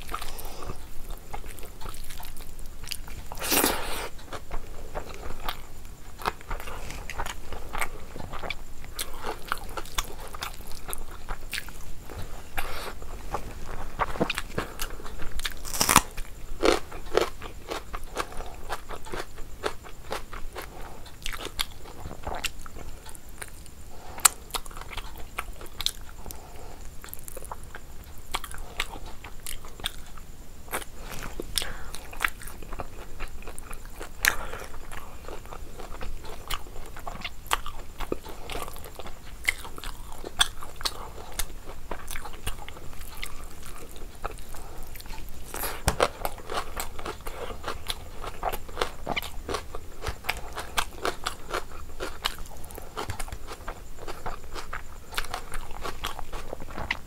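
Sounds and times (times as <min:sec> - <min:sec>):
person chewing and biting food: 0:00.0 - 0:26.4, 0:27.0 - 0:57.0.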